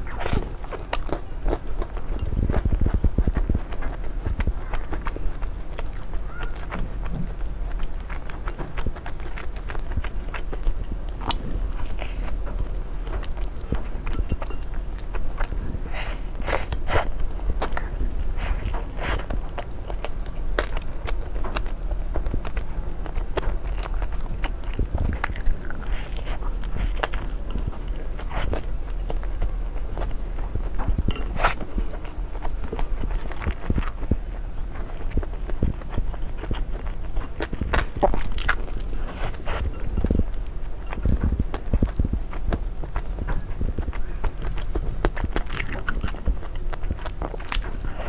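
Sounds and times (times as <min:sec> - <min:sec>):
low steady hum: 0:00.0 - 0:48.0
crunching bites and chews: 0:07.8 - 0:48.0.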